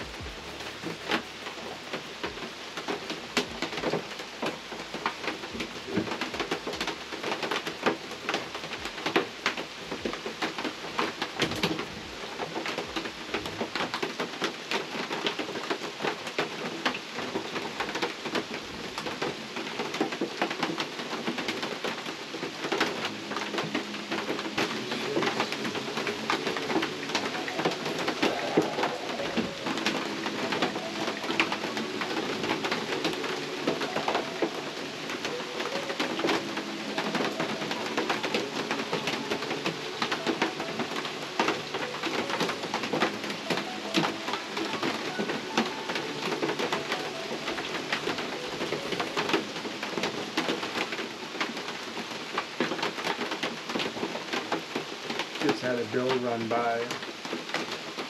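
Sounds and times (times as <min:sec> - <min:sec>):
rain ticking on a blind: 0:00.0 - 0:58.0.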